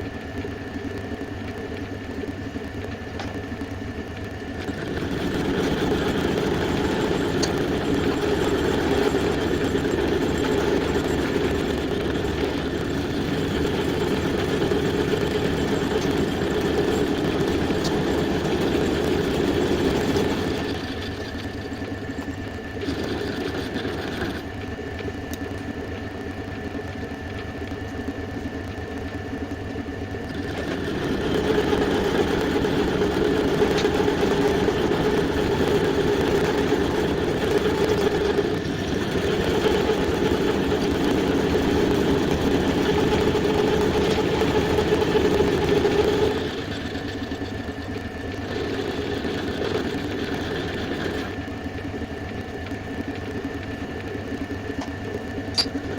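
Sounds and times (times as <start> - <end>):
belt sander motor running: 0.0 - 55.9.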